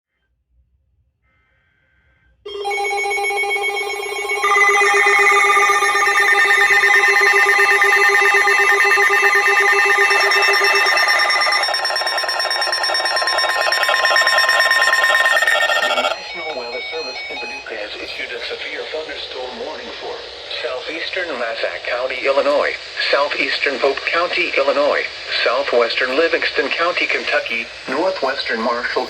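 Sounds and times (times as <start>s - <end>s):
weather radio alert tones: 2.5s - 29.0s.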